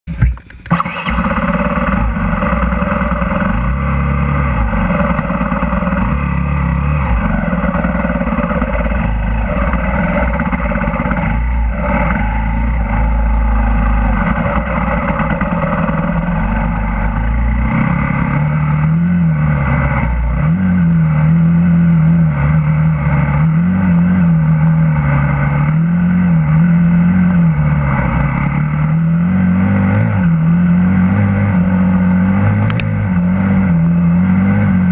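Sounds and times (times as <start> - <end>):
heavy low rumble: 0.0 - 34.9
motorcycle engine revving: 0.0 - 34.9.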